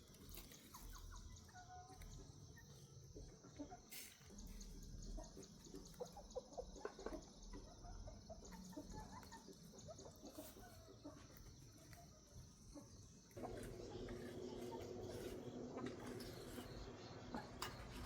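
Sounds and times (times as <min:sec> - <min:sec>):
chickens clucking: 0:00.1 - 0:18.0.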